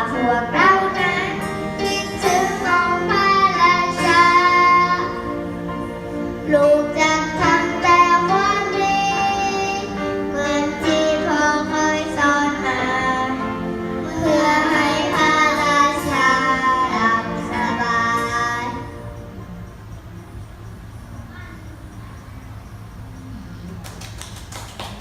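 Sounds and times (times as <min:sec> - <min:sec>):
backing music: 0:00.0 - 0:25.0.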